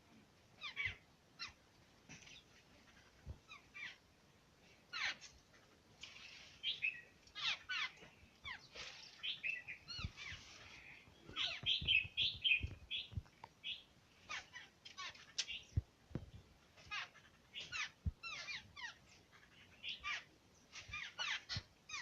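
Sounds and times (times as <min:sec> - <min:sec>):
small birds chirping: 0:00.5 - 0:22.0.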